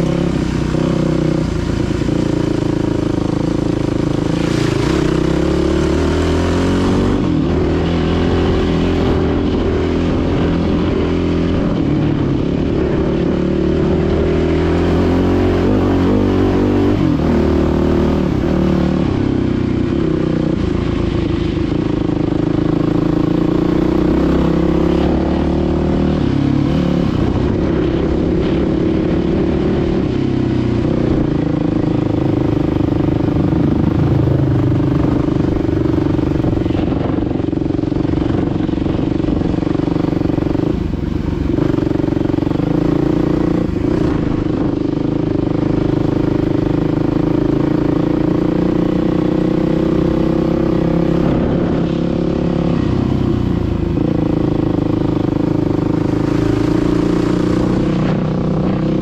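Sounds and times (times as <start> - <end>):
dirt bike engine revving: 0.0 - 19.3, 21.8 - 59.0
steady rushing noise: 0.0 - 59.0.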